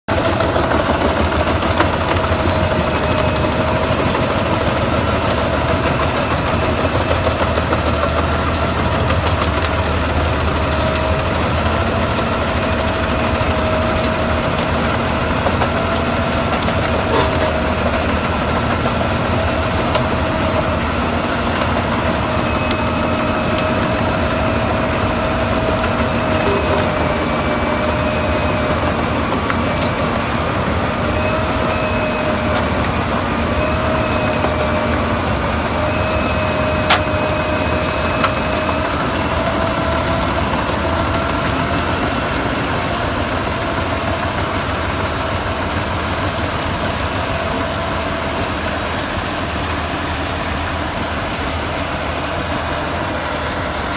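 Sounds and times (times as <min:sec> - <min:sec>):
wood chipper running: 0:00.1 - 0:53.9.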